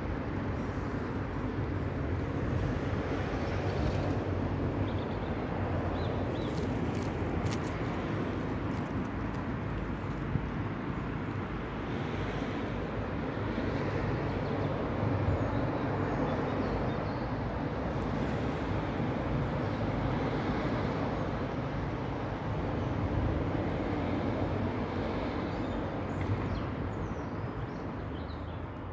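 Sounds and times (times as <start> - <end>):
outdoor rumble and hiss: 0.0 - 27.6.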